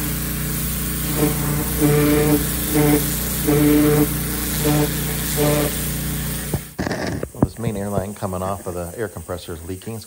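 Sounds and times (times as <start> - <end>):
pressure washer spraying: 0.0 - 10.0.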